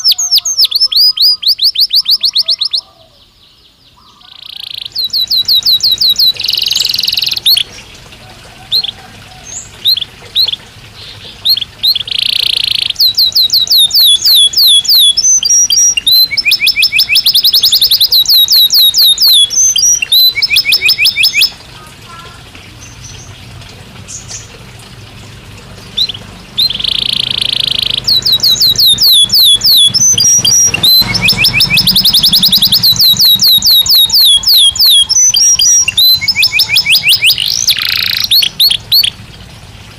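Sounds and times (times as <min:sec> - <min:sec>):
canary singing trills: 0:00.0 - 0:24.6, 0:25.7 - 0:39.2.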